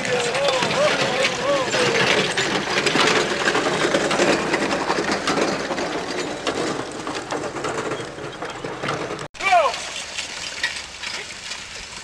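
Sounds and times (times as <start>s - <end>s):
farm implement rattling clatter: 0.0s - 12.0s.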